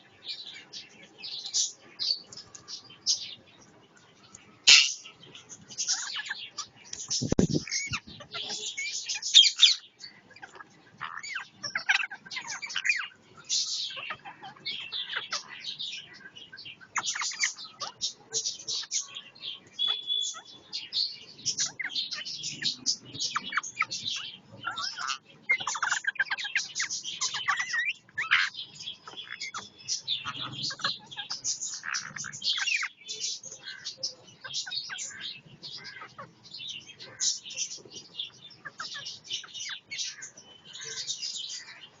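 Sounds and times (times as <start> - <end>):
parrots squawking and chattering: 0.0 - 42.0.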